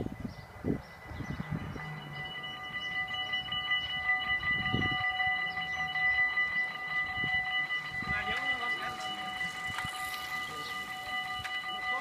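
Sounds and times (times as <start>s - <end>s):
level-crossing warning bells: 0.0s - 12.0s.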